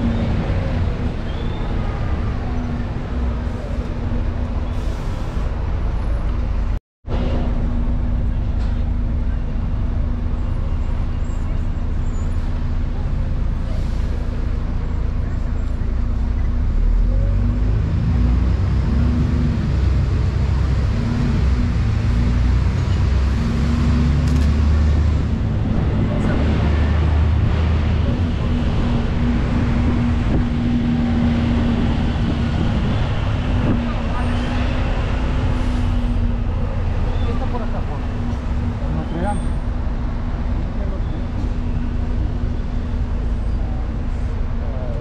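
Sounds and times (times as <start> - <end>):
bus engine rumble: 0.0 - 45.0
road and traffic noise: 0.0 - 45.0.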